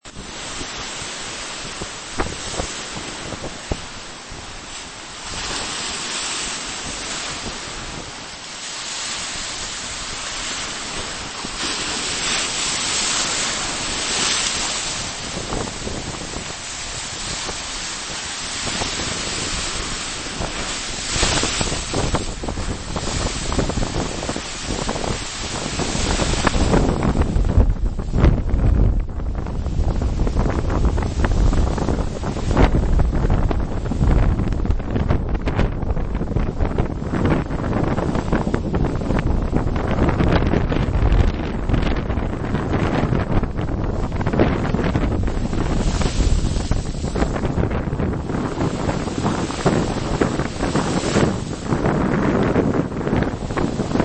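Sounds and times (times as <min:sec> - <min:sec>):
surf breaking on a beach: 0:00.0 - 0:54.0
wind buffeting the microphone: 0:00.0 - 0:54.0.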